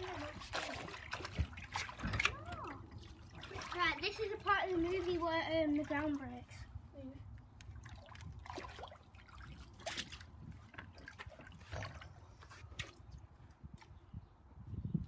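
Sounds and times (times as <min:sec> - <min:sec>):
water sloshing and dripping: 0:00.0 - 0:14.0.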